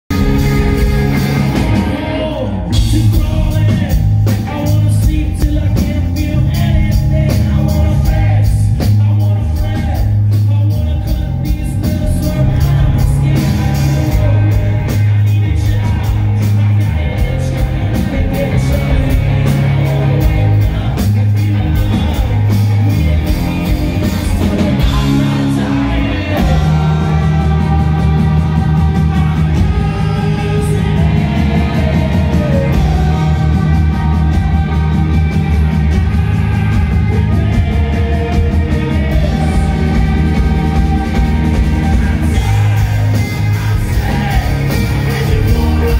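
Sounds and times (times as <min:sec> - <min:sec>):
rock band playing: 0:00.0 - 0:45.9
man singing lead vocal: 0:00.1 - 0:45.9.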